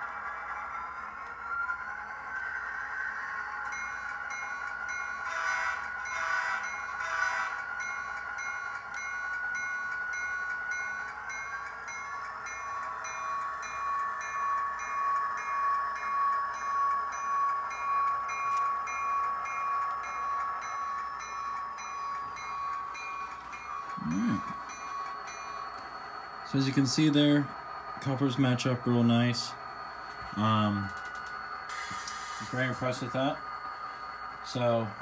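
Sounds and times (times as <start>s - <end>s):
locomotive bell ringing: 3.6s - 35.0s.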